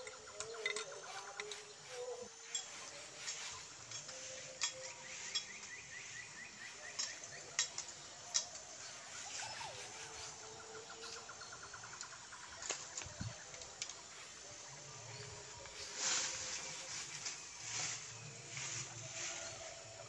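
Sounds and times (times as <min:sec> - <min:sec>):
dry leaves and sticks crackling: 0:00.0 - 0:20.0.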